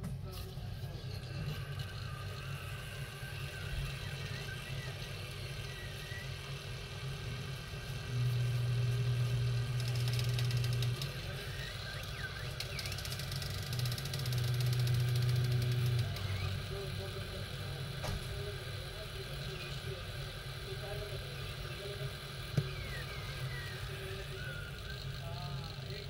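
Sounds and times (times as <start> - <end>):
low motor-like hum: 0.0 - 26.0.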